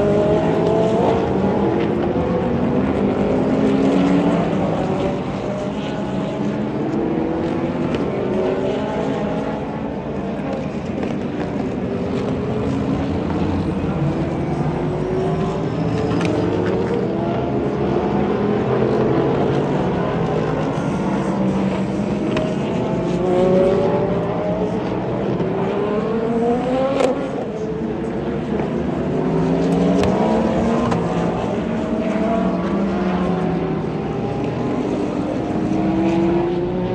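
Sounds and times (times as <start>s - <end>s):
race car engines accelerating: 0.0s - 36.9s.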